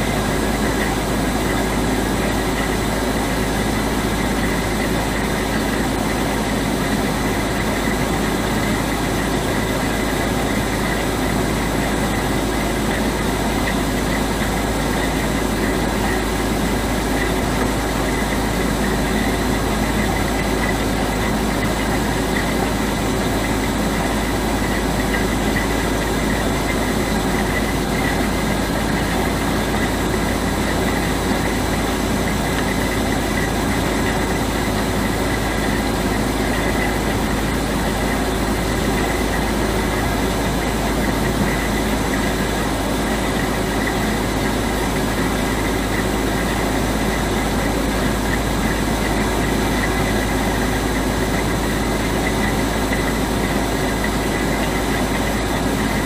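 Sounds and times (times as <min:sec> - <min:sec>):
hvac deep drone: 0:00.0 - 0:56.0.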